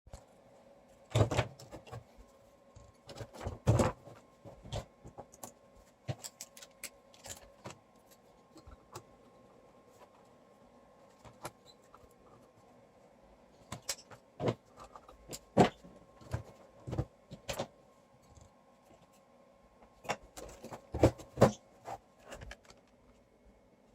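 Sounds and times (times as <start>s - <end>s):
faint steady hum: 0.1s - 23.9s.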